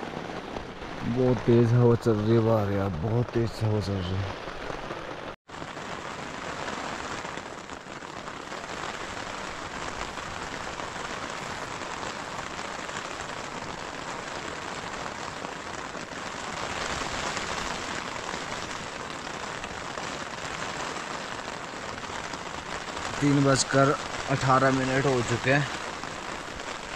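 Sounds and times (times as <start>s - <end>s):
heavy rain on tent fabric: 0.0s - 26.9s
strong wind on tent: 0.0s - 26.9s.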